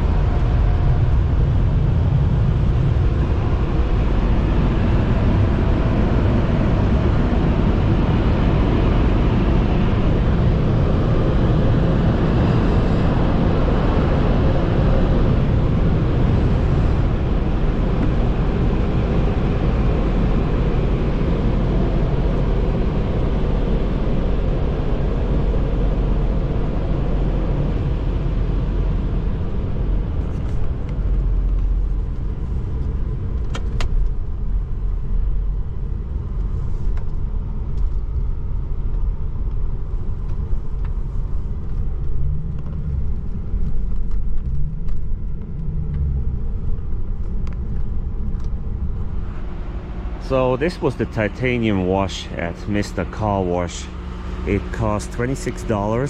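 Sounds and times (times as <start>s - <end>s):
car wash rush and rumble: 0.0s - 56.0s.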